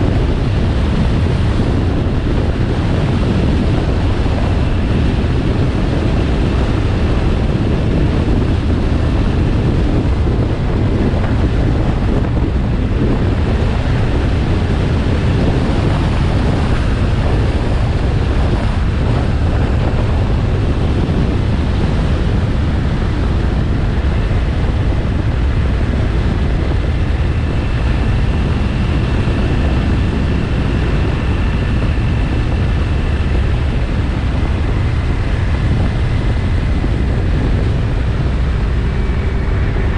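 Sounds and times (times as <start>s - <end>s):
motorcycle engine and road rumble: 0.0s - 39.9s
wind buffeting on microphone: 0.0s - 39.9s.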